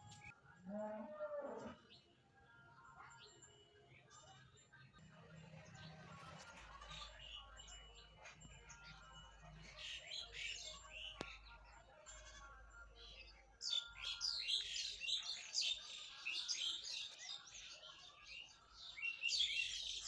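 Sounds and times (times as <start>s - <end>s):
small birds chirping: 3.1s - 20.0s.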